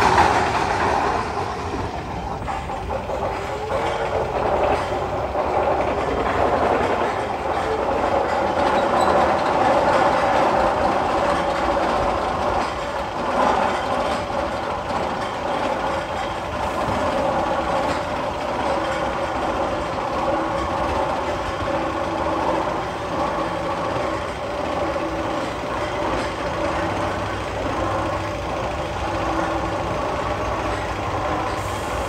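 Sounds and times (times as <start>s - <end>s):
roller coaster lift chain clatter: 0.0s - 32.0s.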